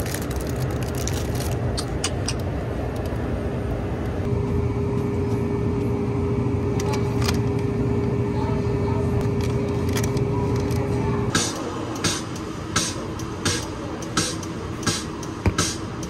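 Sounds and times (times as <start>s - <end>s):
refrigeration and ventilation hum: 0.0s - 16.0s.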